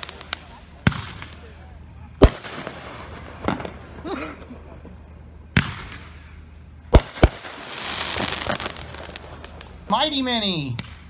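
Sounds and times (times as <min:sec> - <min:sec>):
firework hiss: 0:00.0 - 0:04.0, 0:05.5 - 0:11.0
firework bangs: 0:00.0 - 0:11.0.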